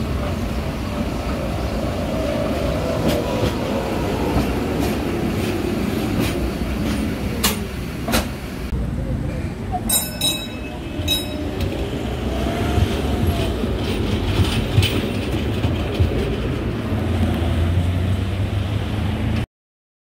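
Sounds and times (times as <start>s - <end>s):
tram wheels rumbling on rails: 0.0s - 19.4s.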